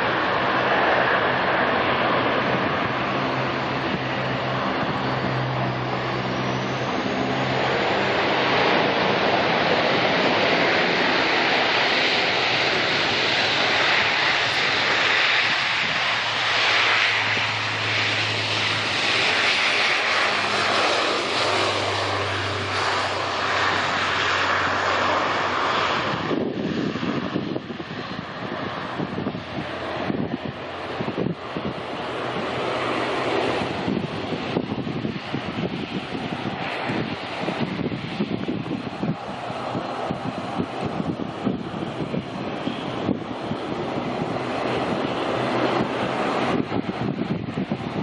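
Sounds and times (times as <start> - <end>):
jet engine whine: 0.0 - 48.0
jet engines running: 0.0 - 48.0.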